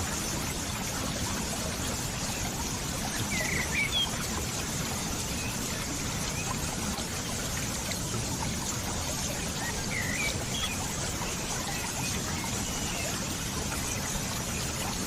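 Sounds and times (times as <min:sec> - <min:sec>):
water flowing: 0:00.0 - 0:15.0.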